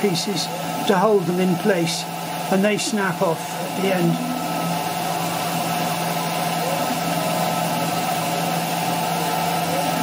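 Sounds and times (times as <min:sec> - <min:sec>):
air jet hissing: 0:00.0 - 0:10.0.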